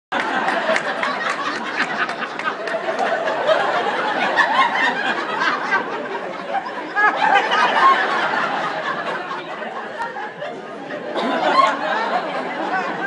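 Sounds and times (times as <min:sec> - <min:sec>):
audience laughing and chattering: 0:00.1 - 0:13.0.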